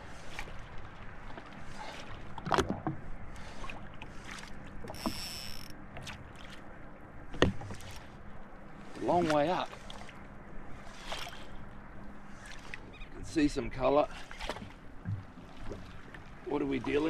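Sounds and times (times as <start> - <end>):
water lapping against hull: 0.0 - 17.0.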